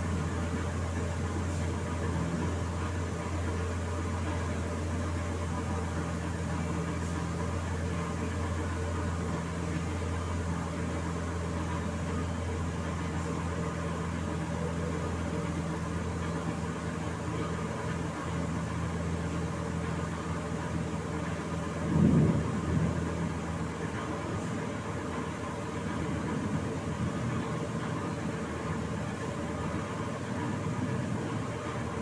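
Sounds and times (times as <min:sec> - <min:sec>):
machine hum with hiss: 0:00.0 - 0:32.0.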